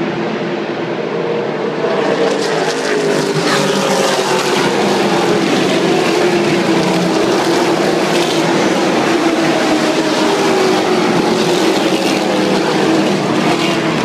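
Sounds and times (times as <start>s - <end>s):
racing car engines at speed: 0.0s - 14.0s.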